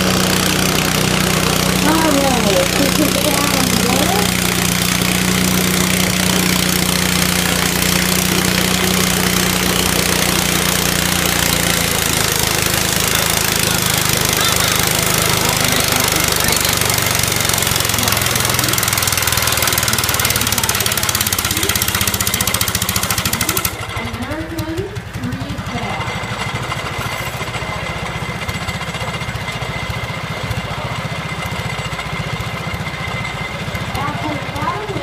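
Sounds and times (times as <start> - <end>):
small engine running under load: 0.0 - 35.0.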